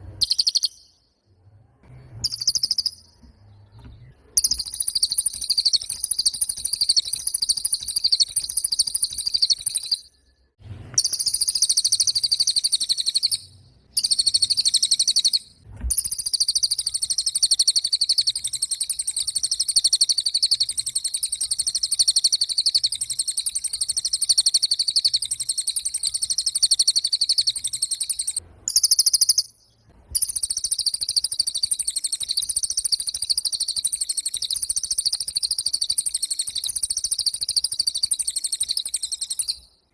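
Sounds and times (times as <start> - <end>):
songbird high-pitched trill: 0.2 - 1.1, 2.2 - 39.8.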